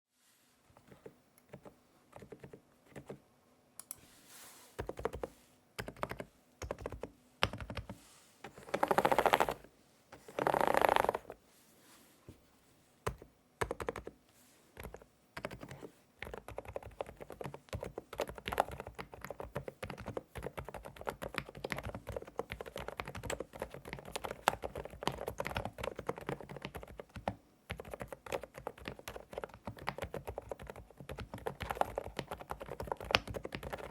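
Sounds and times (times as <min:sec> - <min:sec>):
soft muted keyboard typing: 0:00.7 - 0:03.2, 0:03.8 - 0:04.0, 0:04.8 - 0:11.4, 0:13.0 - 0:14.2, 0:14.8 - 0:33.9.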